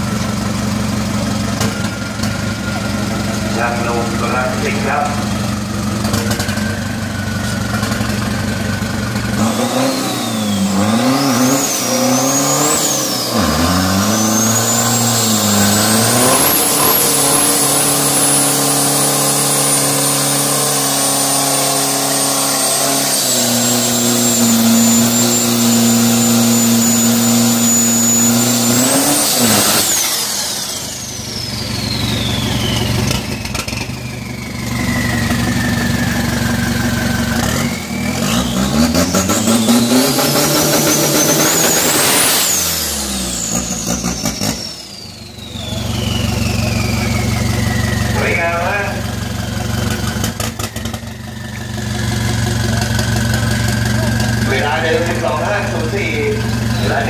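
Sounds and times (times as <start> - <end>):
diesel engine revving hard: 0.9 - 57.0
turbo whistle: 9.4 - 54.5, 55.1 - 57.0.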